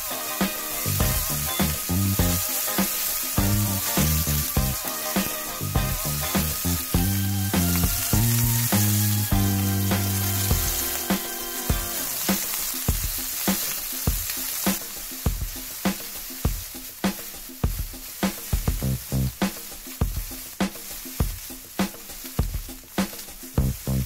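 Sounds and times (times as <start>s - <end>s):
background music with beat: 0.0s - 24.0s
steak sizzling in a skillet: 0.0s - 24.0s.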